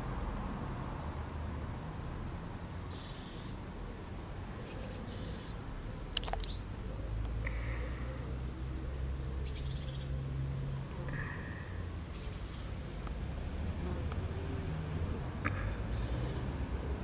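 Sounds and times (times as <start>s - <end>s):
birds chirping: 1.3s - 13.2s, 14.0s - 17.0s.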